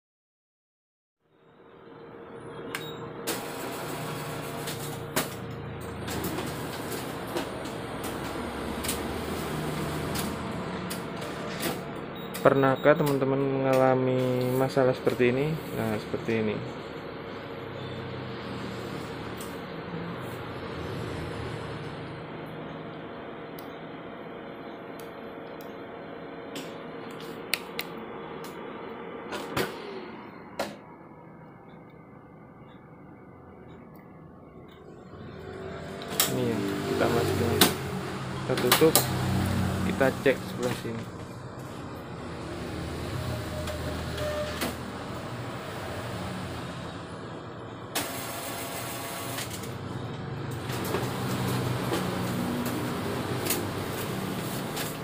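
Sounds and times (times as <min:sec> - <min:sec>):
copier running hum: 0:01.5 - 0:55.0.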